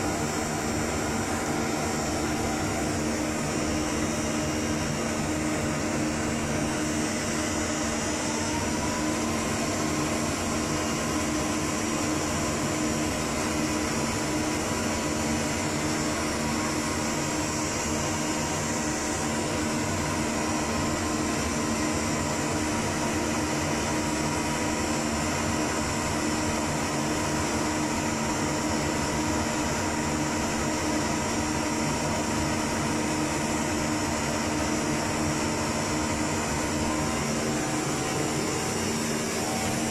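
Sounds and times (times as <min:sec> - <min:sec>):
cooling fans whirring: 0:00.0 - 0:39.9.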